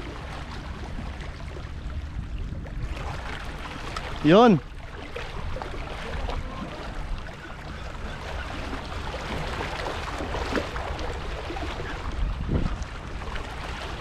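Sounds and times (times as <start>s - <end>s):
wind noise on microphone: 0.0s - 4.4s, 5.2s - 14.0s
sea surf washing ashore: 0.0s - 14.0s.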